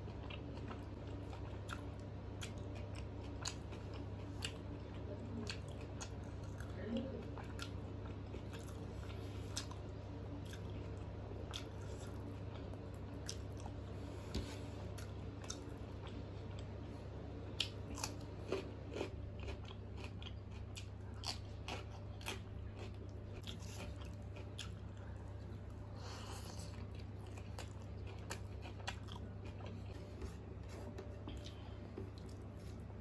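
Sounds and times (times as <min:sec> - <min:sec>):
chewing and crunching food: 0:00.0 - 0:33.0
steady low hum: 0:00.0 - 0:33.0.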